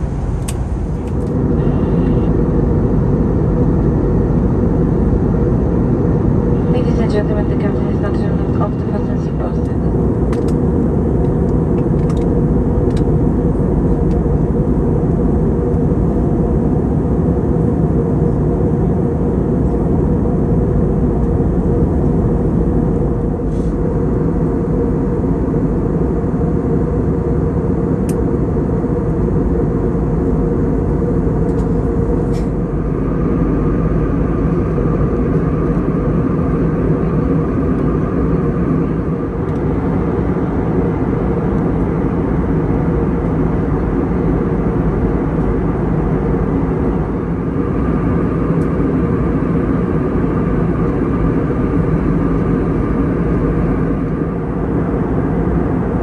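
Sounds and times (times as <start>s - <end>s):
airplane cabin roar: 0.0s - 56.0s
faint higher hum: 0.0s - 56.0s.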